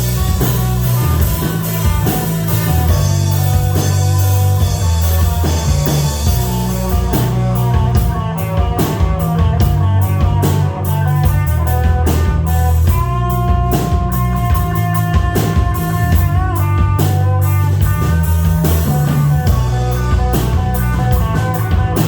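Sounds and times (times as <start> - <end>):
bass line: 0.0 - 22.0
drum kit with cymbals: 0.0 - 22.0
electric guitar: 0.0 - 22.0.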